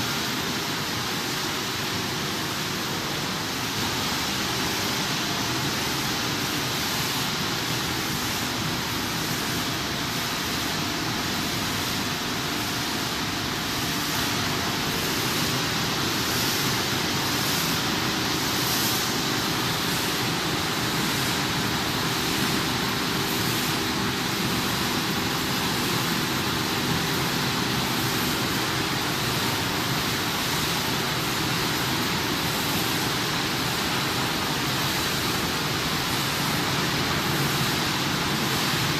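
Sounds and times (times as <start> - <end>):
machinery hiss: 0.0 - 38.9.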